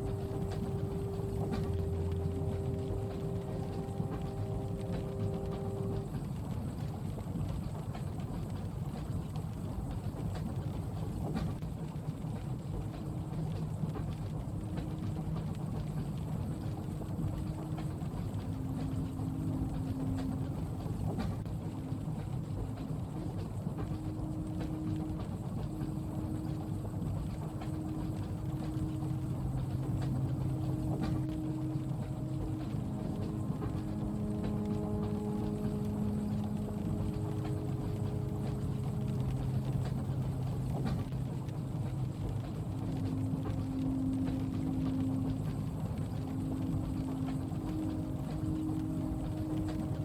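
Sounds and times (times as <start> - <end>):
faint hum tones: 0.0 - 50.0
rain on window: 0.0 - 50.0
train carriage rumble: 0.0 - 50.0.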